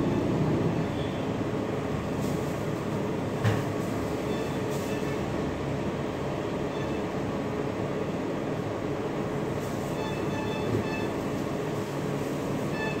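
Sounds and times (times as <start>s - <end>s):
refrigeration unit whirring hum: 0.0s - 13.0s.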